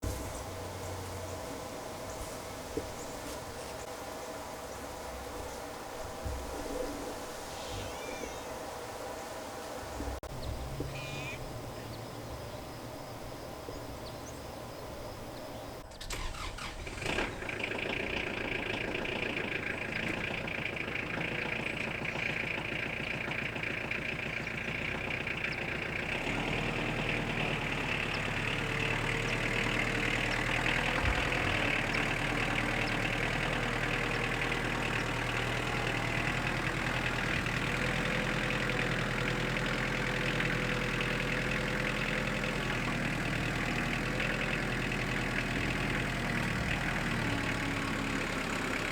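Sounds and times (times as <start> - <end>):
low hum: 0.0 - 48.5
sawmill engine starting and running: 0.0 - 48.9.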